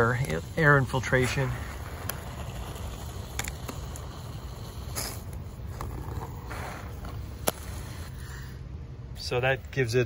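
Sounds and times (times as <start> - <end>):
spray foam hissing: 0.0 - 8.5.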